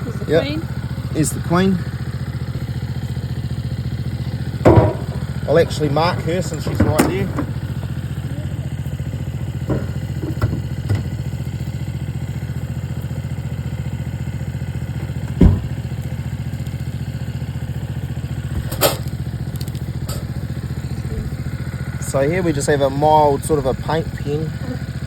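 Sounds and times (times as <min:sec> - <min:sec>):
engine idling: 0:00.0 - 0:25.0
engine knocks: 0:00.0 - 0:25.0.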